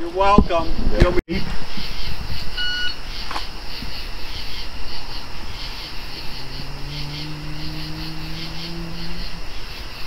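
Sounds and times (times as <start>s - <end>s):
crickets chirping: 1.4s - 10.0s.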